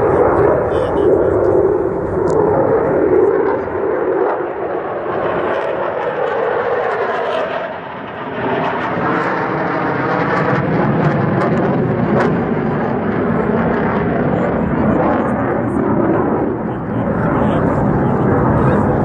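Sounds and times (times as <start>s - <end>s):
fighter jet flying past: 0.0s - 19.0s.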